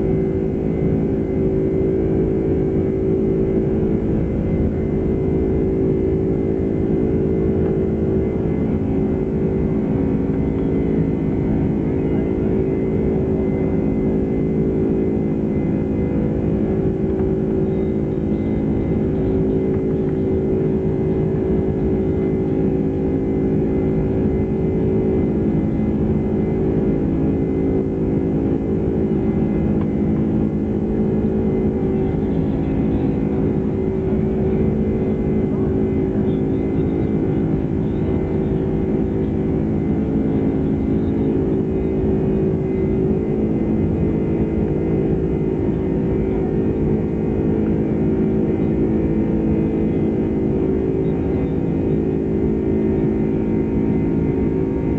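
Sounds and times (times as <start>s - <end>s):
aircraft cabin engine drone: 0.0s - 54.9s
constant humming tones: 0.0s - 54.9s.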